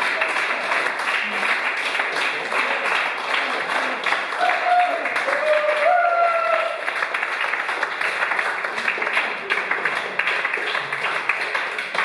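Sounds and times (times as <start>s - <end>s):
small group clapping: 0.0s - 12.0s.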